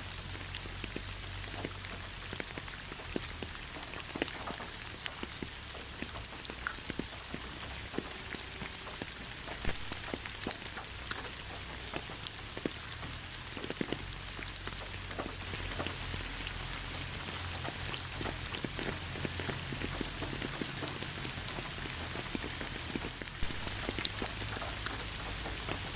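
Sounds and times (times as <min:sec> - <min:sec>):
raindrops ticking on a surface: 0:00.0 - 0:25.9
steady rain hiss: 0:00.0 - 0:25.9.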